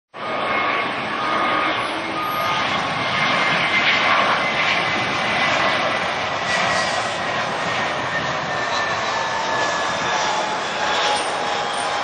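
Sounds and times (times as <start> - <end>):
jet engines on approach: 0.1 - 12.0.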